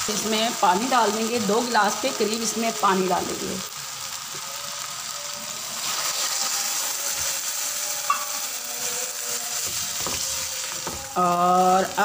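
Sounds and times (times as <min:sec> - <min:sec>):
water sizzling in hot pan: 0:00.0 - 0:12.0.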